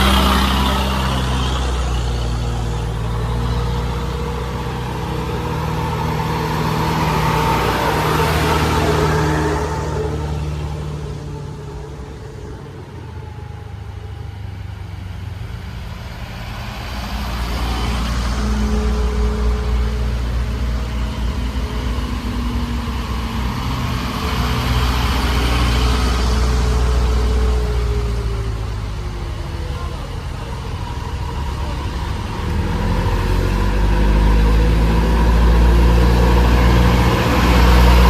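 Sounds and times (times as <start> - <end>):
heavy vehicle engine rumbling: 0.0 - 38.0.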